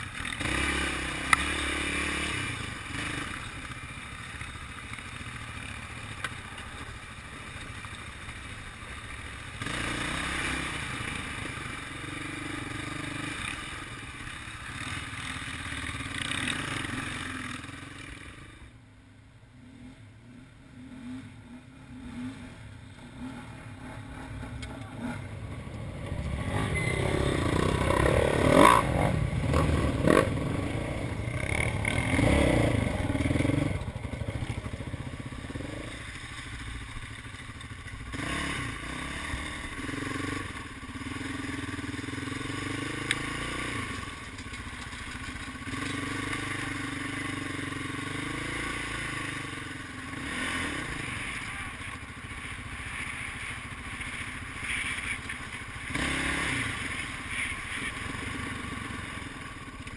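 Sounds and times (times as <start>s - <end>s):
atv engine revving: 0.0s - 18.8s, 19.6s - 59.9s.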